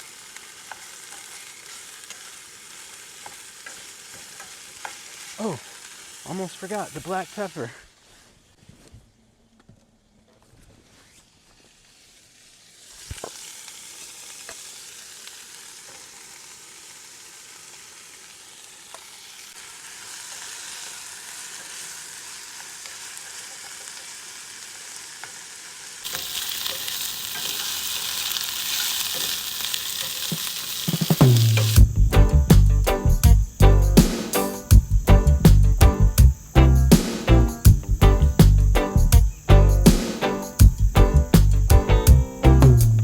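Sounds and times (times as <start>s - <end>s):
vegetables sizzling in oil: 0.0s - 8.6s, 11.0s - 43.0s.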